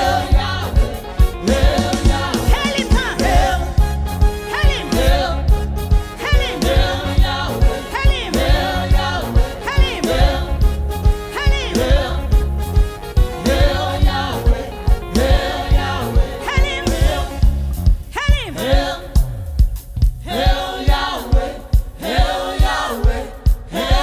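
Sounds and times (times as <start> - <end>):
choir singing: 0.0 - 17.8, 18.4 - 19.4, 20.2 - 24.0
steady drum beat: 0.0 - 24.0.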